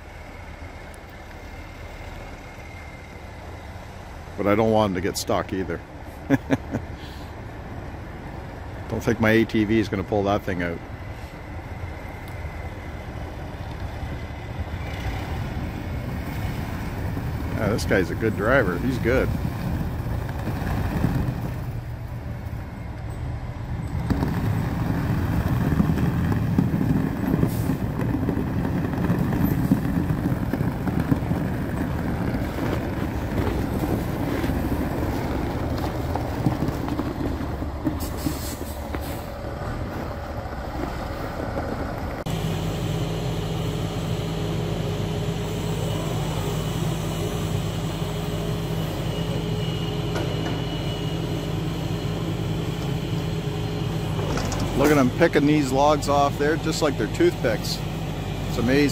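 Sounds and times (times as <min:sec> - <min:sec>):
diesel truck engine running: 0:00.0 - 0:58.9
loader crane running: 0:00.0 - 0:58.9.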